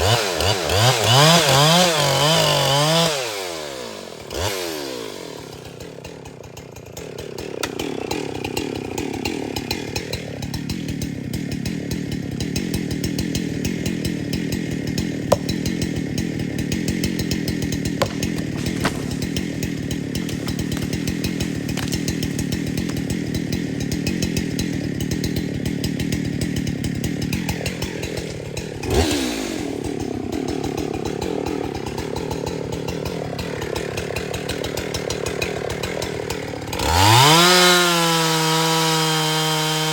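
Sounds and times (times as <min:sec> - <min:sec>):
chainsaw cutting: 0:00.0 - 0:39.9.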